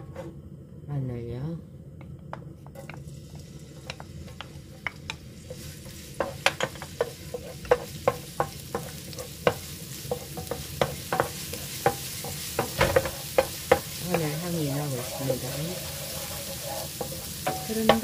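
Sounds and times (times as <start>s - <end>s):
garlic sizzling in oil: 2.8s - 18.0s.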